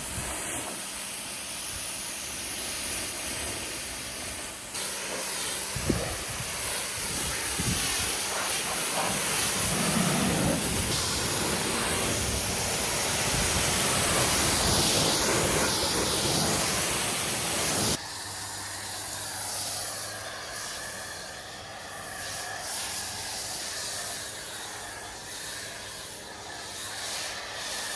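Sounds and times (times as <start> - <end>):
water spraying onto car: 0.0 - 27.9.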